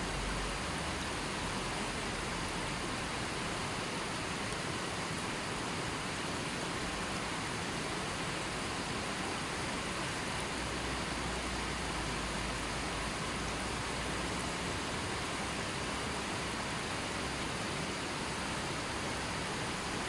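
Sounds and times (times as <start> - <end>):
stream running over rocks: 0.0 - 20.0.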